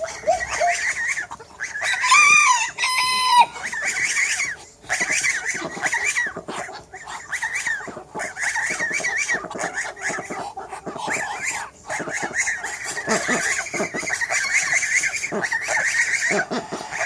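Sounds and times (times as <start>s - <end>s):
chickens calling: 0.0s - 17.0s
low chicken clucks: 0.0s - 17.0s.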